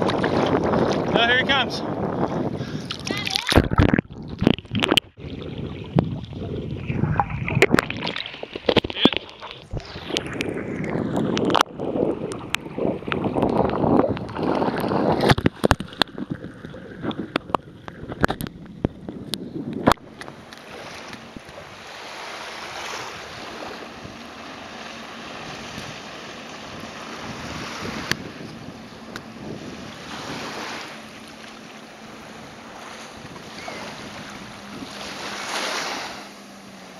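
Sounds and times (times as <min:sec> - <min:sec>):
jet ski engine: 0:00.0 - 0:03.5, 0:04.8 - 0:36.9
rush of wind and water: 0:00.0 - 0:36.9
wind buffeting microphone: 0:00.0 - 0:36.9.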